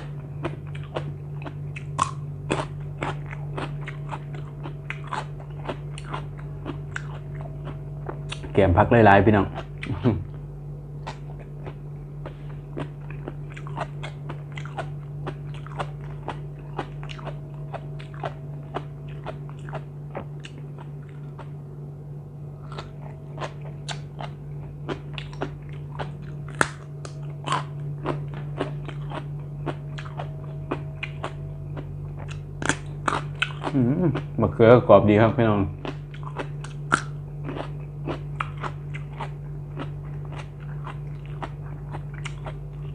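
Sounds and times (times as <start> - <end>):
person crunching raw vegetables: 0.0 - 8.6, 11.0 - 21.6, 22.6 - 34.6, 35.8 - 42.9
low hum: 0.0 - 42.9.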